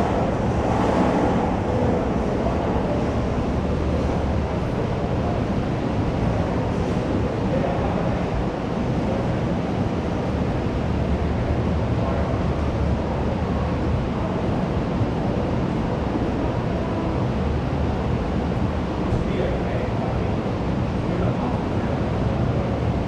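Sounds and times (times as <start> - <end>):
crowd voices babbling: 0.0 - 23.0.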